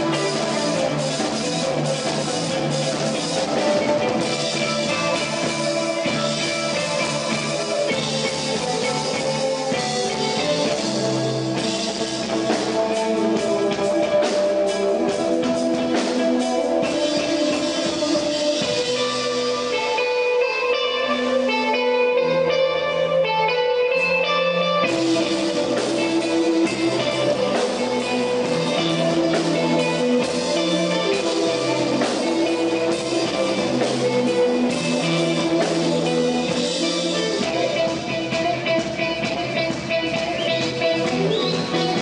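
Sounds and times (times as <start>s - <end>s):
bass: 0.0s - 42.0s
electric guitar notes: 0.0s - 42.0s
full band with drums: 0.0s - 42.0s.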